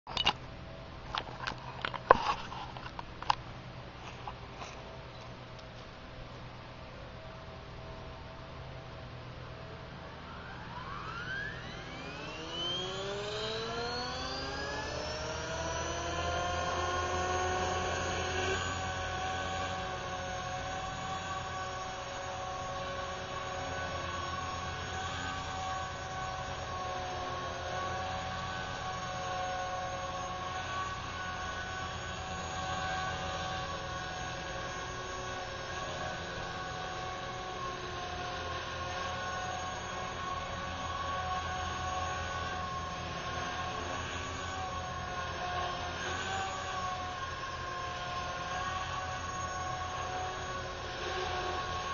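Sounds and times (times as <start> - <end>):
model helicopter motor whine: 9.5 - 51.9.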